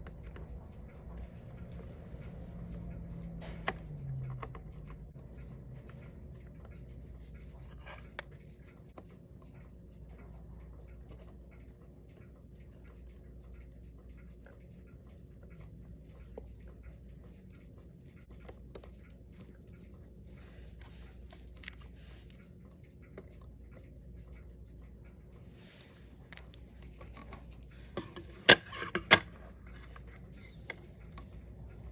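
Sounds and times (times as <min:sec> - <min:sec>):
small clicks and taps on a watch: 0:00.0 - 0:28.2, 0:28.8 - 0:31.9
low steady hum: 0:00.0 - 0:31.9.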